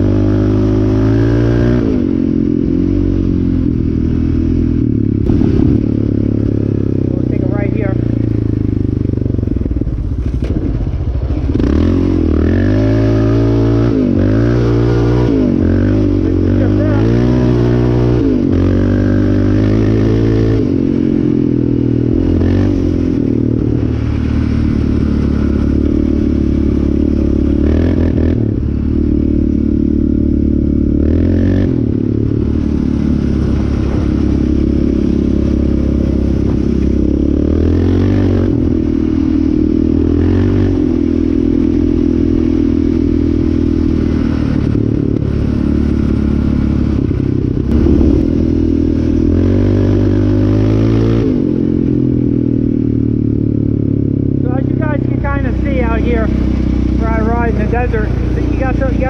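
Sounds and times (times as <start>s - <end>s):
quad engine revving: 0.0s - 10.7s, 11.4s - 59.0s.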